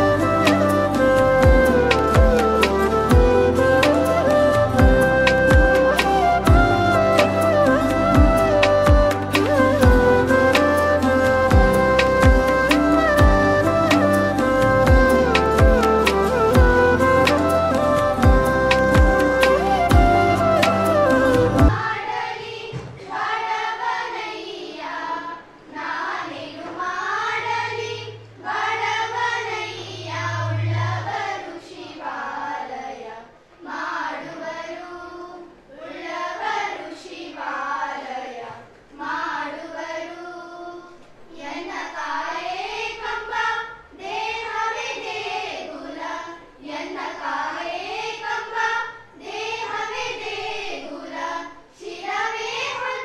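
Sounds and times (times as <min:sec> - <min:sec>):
girls singing in unison: 0:00.0 - 0:53.0.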